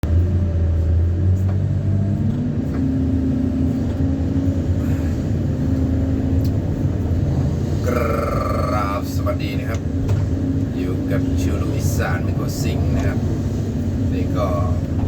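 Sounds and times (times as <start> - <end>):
engine humming: 0.0 - 15.0
high engine tone: 0.0 - 15.0.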